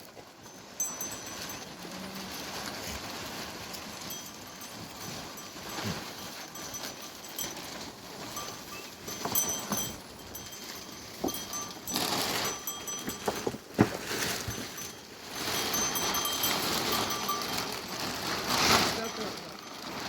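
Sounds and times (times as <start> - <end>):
high ringing tones: 0.4 - 2.6, 3.6 - 20.0.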